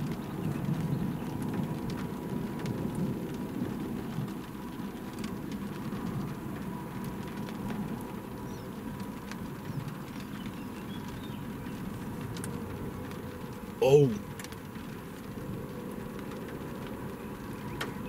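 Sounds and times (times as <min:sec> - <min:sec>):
rain ticking on car: 0:00.0 - 0:18.0.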